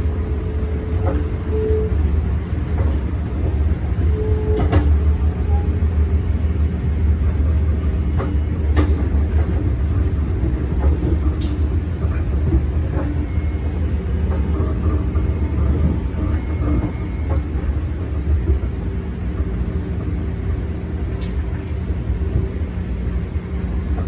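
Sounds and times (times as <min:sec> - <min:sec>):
train rumble from inside: 0:00.0 - 0:24.0.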